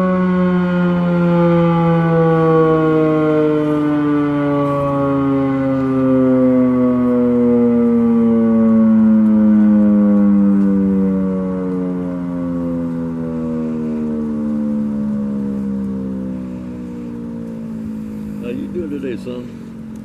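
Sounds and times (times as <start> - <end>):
warning siren winding down: 0.0 - 20.0.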